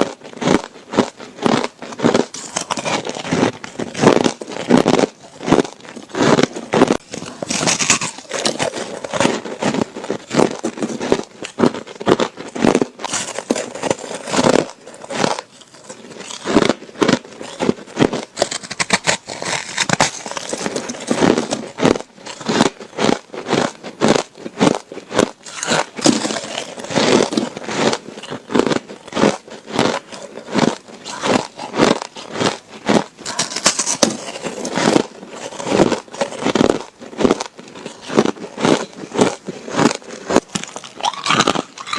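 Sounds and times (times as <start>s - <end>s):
ice crunching between teeth: 0.0s - 41.9s.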